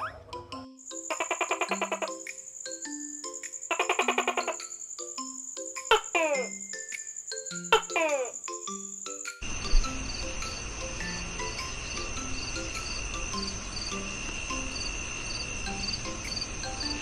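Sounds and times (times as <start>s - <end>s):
background hiss: 0.5s - 17.0s
crickets chirping: 0.6s - 17.0s.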